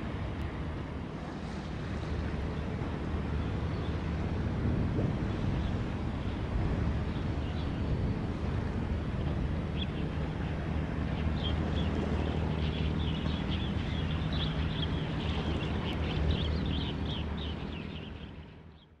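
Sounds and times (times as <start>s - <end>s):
ship's engine droning: 0.0s - 19.0s.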